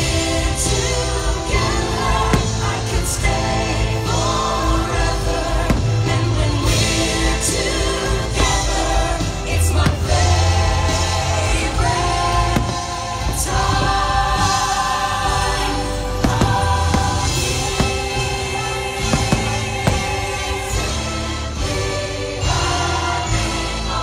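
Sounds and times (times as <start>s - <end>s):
fireworks bursting: 0.0s - 21.7s
music with choir singing: 0.0s - 24.0s.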